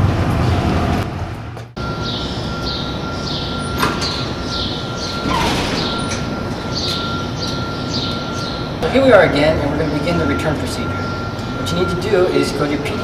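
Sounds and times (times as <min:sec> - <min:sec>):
elevator doors sliding: 0:01.8 - 0:13.0
steady high tone: 0:01.8 - 0:13.0.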